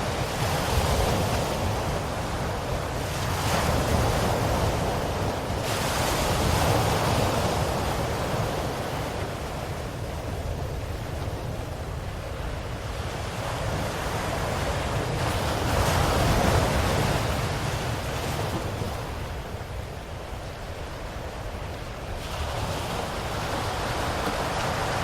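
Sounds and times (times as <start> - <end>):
ocean surf washing ashore: 0.0 - 25.0.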